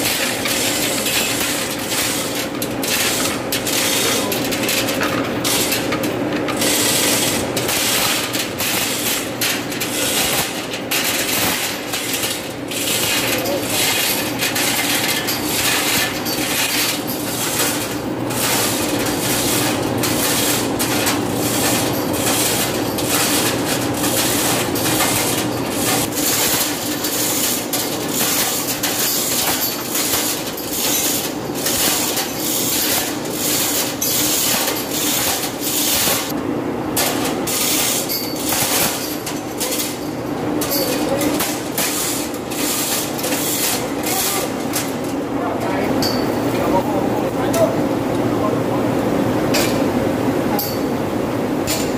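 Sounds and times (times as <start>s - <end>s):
hoist chain rattling and clicking: 0.0s - 36.4s, 37.0s - 45.2s
low machinery hum: 0.0s - 51.9s.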